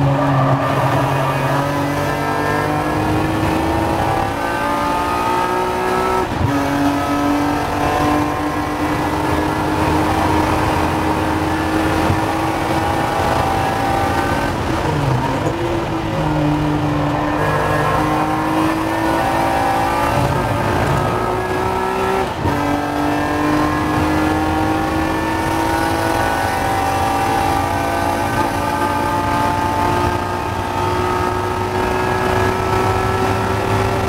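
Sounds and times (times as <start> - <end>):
race car engine accelerating: 0.0 - 34.0.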